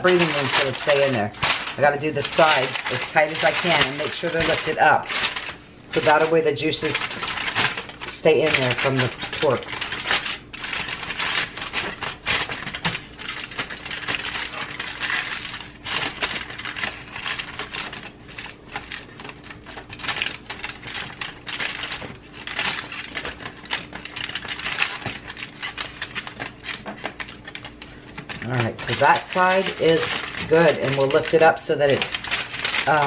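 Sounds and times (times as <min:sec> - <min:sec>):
aluminium foil crinkling: 0:00.0 - 0:33.0.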